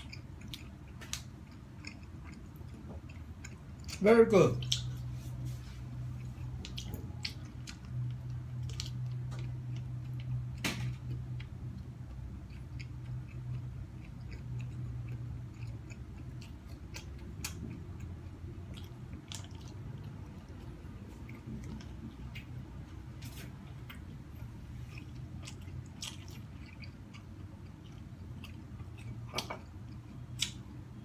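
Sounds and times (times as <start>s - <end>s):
person chewing snack: 0.0s - 31.0s
steady low hum: 0.0s - 31.0s.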